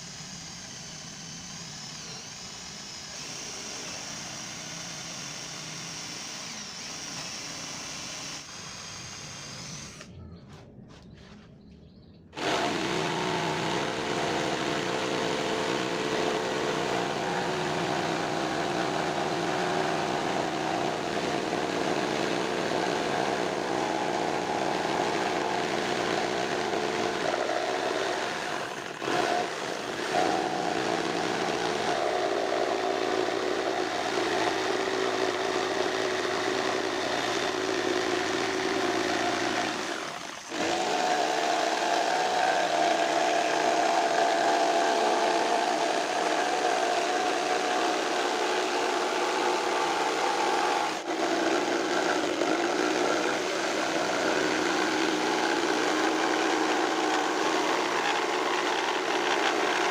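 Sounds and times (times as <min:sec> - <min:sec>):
electric power tool running: 0:00.0 - 0:10.1, 0:12.4 - 0:59.9.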